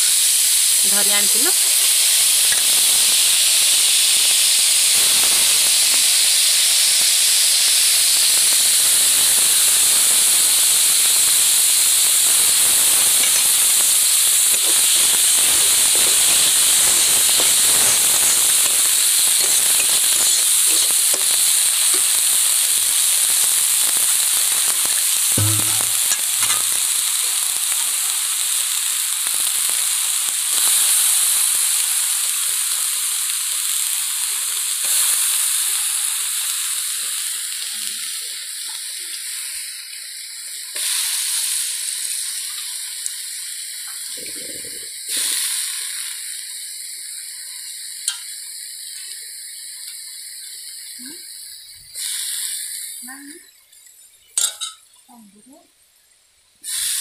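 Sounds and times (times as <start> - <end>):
prawns sizzling in oil: 0.0 - 57.0.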